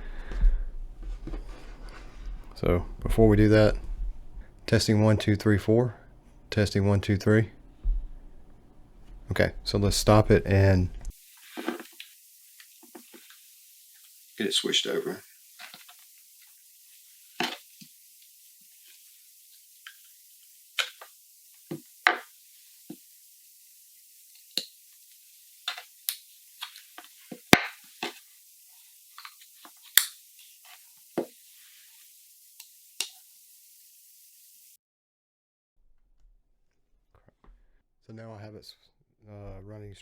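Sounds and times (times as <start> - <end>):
faint hiss: 0.0 - 34.8.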